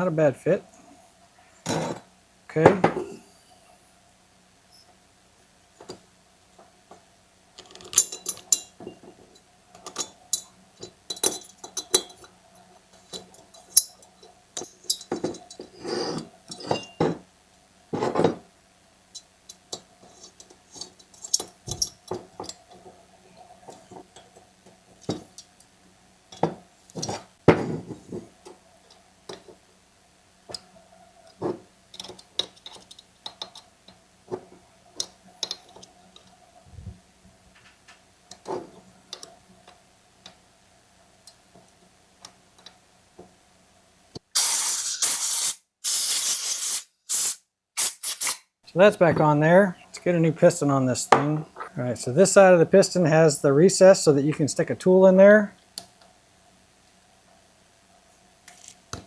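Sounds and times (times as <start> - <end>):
faint steady hum: 0.0 - 44.4, 48.6 - 59.0.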